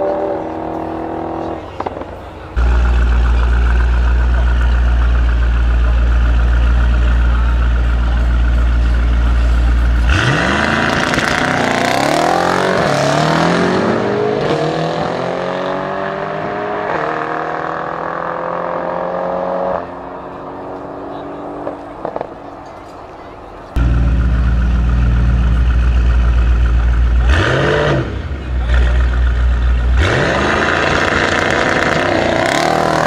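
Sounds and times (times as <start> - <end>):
car engines revving with upshifts: 0.0 - 23.0, 23.7 - 33.0
car engines droning: 0.0 - 33.0.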